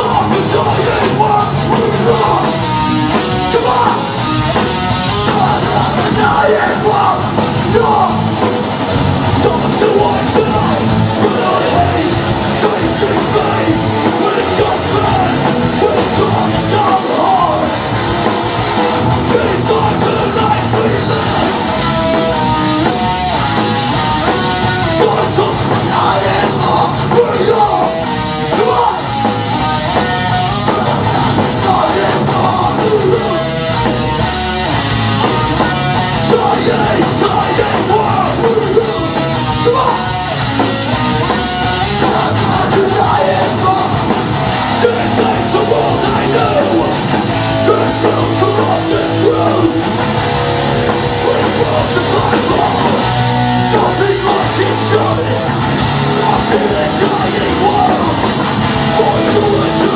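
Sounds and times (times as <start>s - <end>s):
bass guitar: 0.0s - 59.9s
distorted electric guitars: 0.0s - 59.9s
drums: 0.0s - 59.9s.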